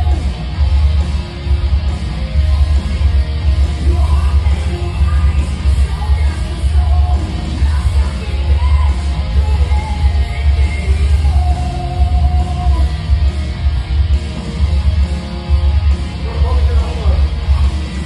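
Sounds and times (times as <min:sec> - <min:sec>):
heavy bass beat: 0:00.0 - 0:18.0
loud rock music with singer: 0:00.0 - 0:18.0.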